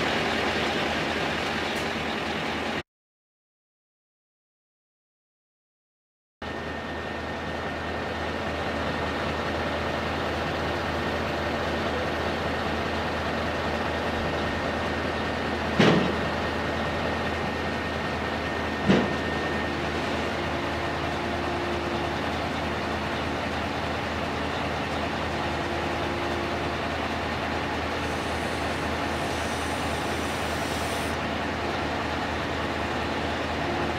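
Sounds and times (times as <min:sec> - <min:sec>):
truck engine idling: 0:00.0 - 0:02.8, 0:06.5 - 0:33.9.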